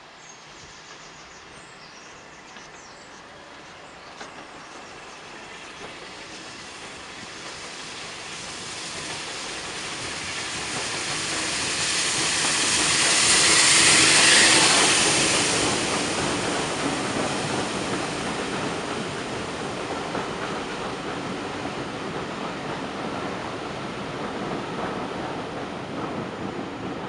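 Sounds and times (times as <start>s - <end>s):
steam locomotive passing: 0.0s - 27.0s
train coaches running by: 0.0s - 27.0s
rushing hiss of steam: 0.1s - 27.0s.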